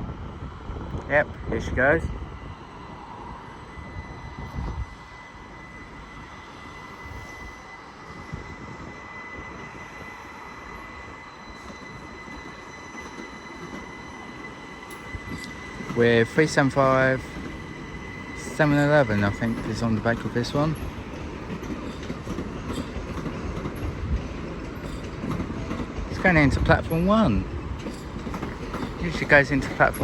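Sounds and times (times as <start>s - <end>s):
electric train humming: 0.0s - 30.0s.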